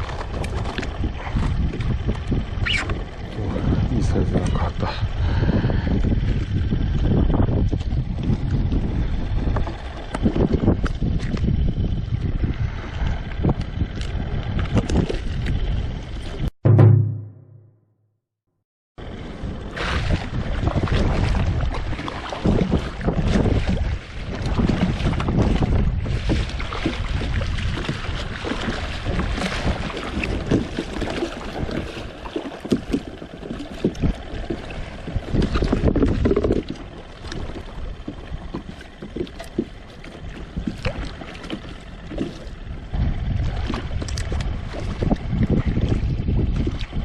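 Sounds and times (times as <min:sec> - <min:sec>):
wind buffeting microphone: 0:00.0 - 0:16.5, 0:19.0 - 0:47.0
water splashing against hull: 0:00.0 - 0:17.5, 0:19.1 - 0:47.0.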